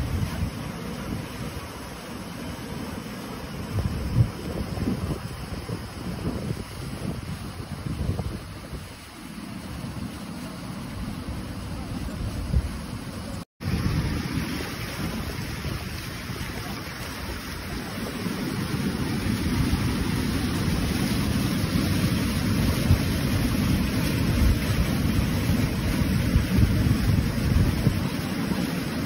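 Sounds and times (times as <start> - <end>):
wind noise on microphone: 0.0 - 2.0, 3.2 - 10.3, 10.9 - 29.0
flood water rushing over rocks: 0.0 - 29.0.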